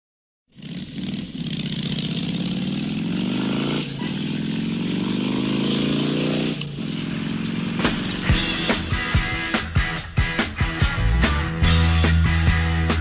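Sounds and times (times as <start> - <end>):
vehicle engine accelerating: 0.5 - 13.0.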